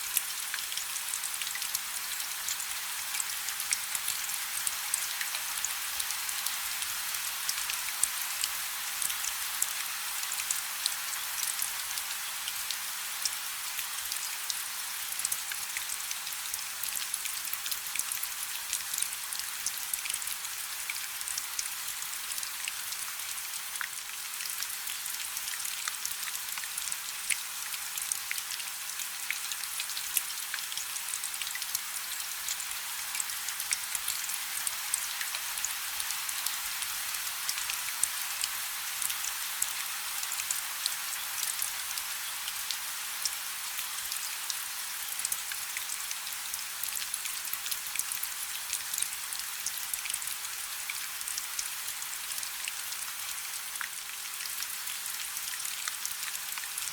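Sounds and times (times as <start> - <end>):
light rain falling: 0.0 - 56.9.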